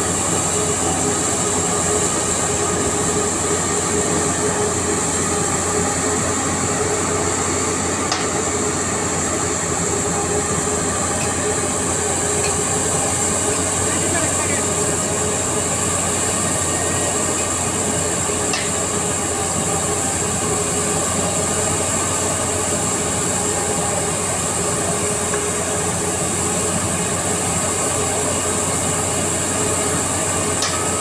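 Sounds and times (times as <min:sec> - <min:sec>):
heavy machinery drone: 0:00.0 - 0:31.0.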